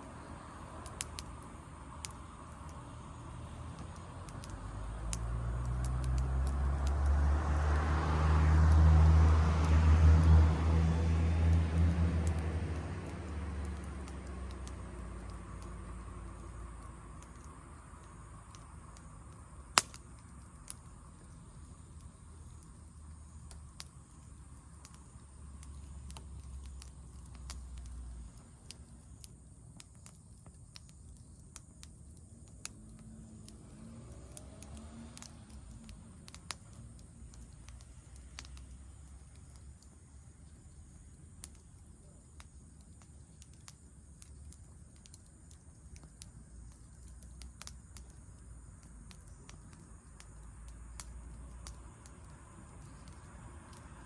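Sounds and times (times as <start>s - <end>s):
campfire crackling and popping: 0.0s - 54.0s
low rumble of fire: 0.0s - 54.0s.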